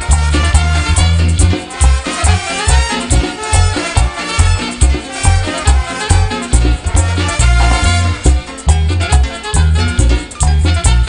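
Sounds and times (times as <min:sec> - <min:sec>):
heavy bass line: 0:00.0 - 0:11.0
latin dance band playing: 0:00.0 - 0:11.0.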